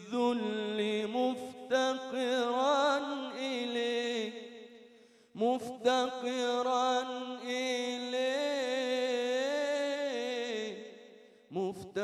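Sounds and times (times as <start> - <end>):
man chanting unaccompanied: 0.0 - 4.4, 5.4 - 12.0.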